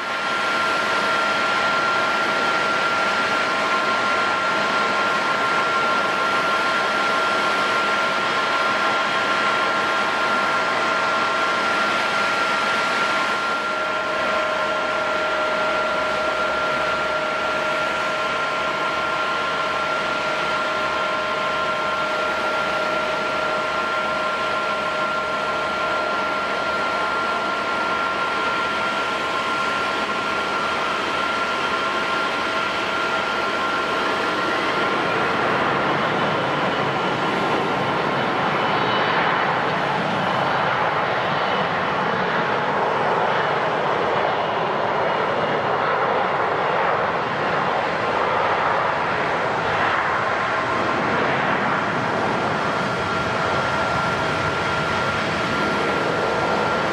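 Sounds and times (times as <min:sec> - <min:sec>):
jet turbines whining: 0:00.0 - 0:56.9.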